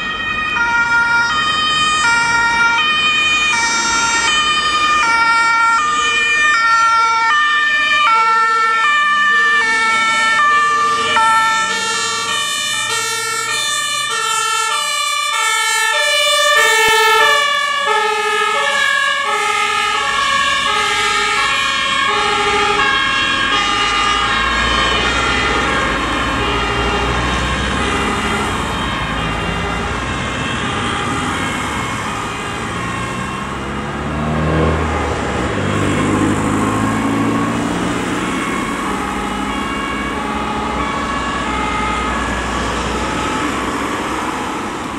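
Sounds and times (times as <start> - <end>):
road traffic rumble: 0.0 - 44.9
two-tone emergency sirens: 0.0 - 44.9.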